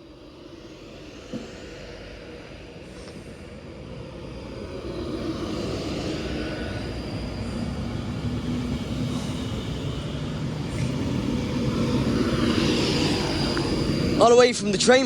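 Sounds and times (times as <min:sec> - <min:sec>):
electric train running: 0:00.0 - 0:15.0
high whine of traction equipment: 0:00.0 - 0:15.0.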